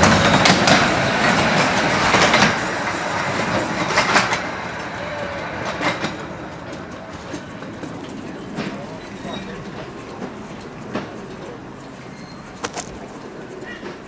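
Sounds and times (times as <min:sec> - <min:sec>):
train wheels clicking over rail joints: 0:00.0 - 0:14.0.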